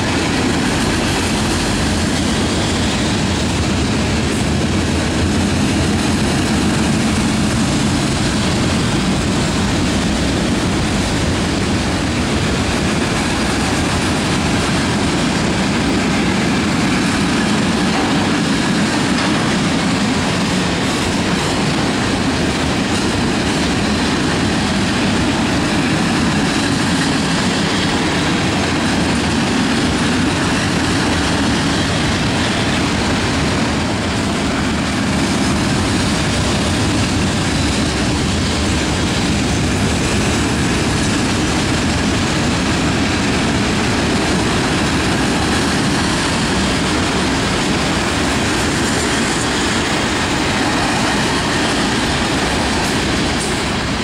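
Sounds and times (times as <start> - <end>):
steel wheels clattering on rails: 0.0 - 54.0.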